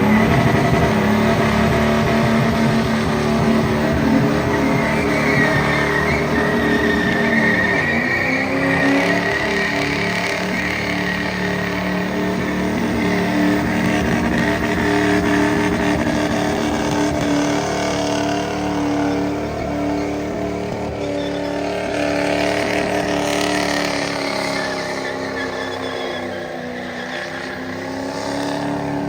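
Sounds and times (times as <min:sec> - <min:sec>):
truck engine revving high: 0:00.0 - 0:29.0.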